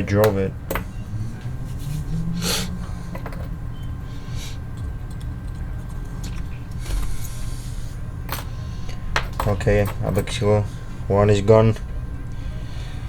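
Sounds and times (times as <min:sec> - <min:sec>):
metal parts clicking and rattling: 0:00.0 - 0:02.0, 0:02.6 - 0:11.3
low hum: 0:00.0 - 0:13.0.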